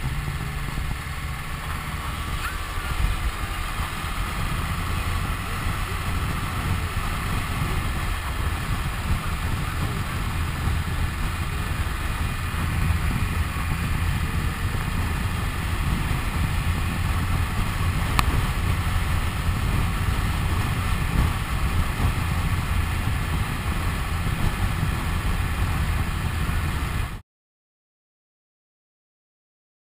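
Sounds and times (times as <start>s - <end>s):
motorcycle engine cruising: 0.0s - 27.2s
wind noise on microphone: 0.0s - 27.2s.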